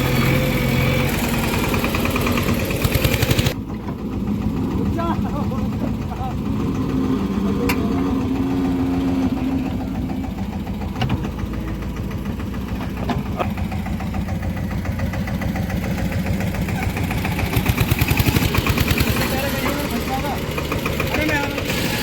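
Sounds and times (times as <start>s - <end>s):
diesel engine idling: 0.0s - 22.0s
sharp engine knocks: 1.6s - 21.8s.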